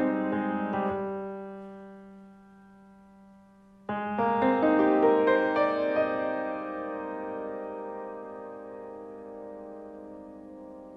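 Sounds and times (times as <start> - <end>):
piano chord ringing: 0.0 - 10.9.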